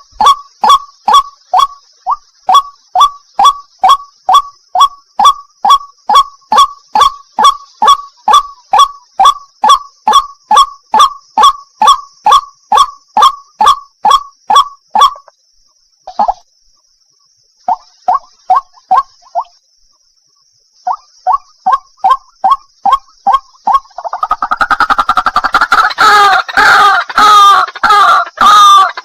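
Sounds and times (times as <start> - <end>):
waterhen calling: 0.0 - 15.3, 17.7 - 19.5, 20.9 - 29.0.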